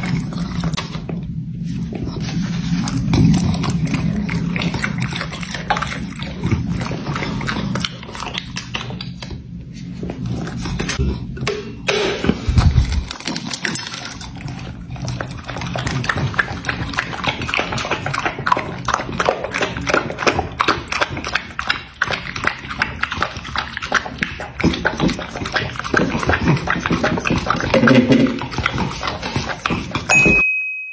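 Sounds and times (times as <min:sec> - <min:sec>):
dog lapping wet licks: 0:02.4 - 0:09.4, 0:12.3 - 0:30.1.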